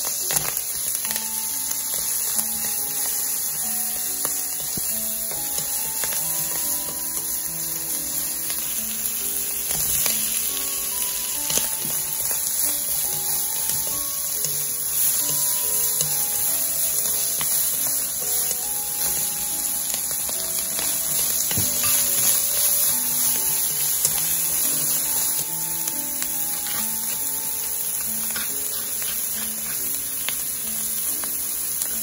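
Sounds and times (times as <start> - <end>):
food sizzling in frying pan: 0.0 - 32.0
light background music: 0.0 - 32.0.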